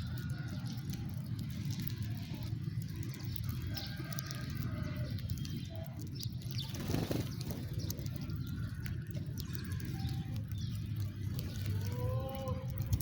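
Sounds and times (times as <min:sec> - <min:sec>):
sparrows chirping: 0:00.0 - 0:13.0
steady low rumble: 0:00.0 - 0:13.0.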